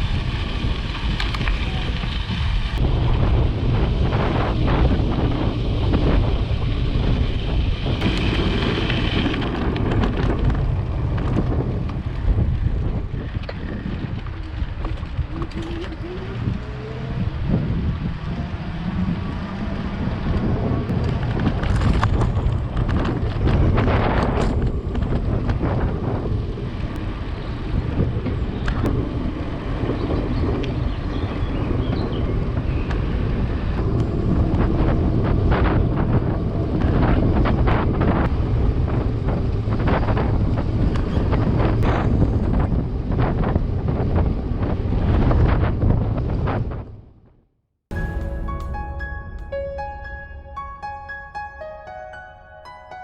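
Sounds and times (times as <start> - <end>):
wind buffeting microphone: 0.0 - 47.3.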